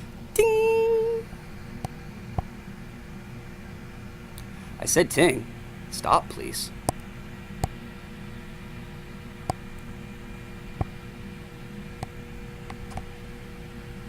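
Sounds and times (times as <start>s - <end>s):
muffled router hum: 0.0s - 14.0s.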